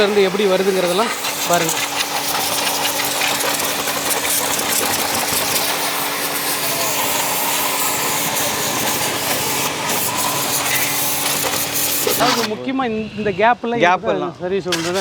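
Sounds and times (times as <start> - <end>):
pressure washer motor hum: 0.0 - 12.6, 14.7 - 15.0
water jet hissing: 0.0 - 12.6, 14.7 - 15.0.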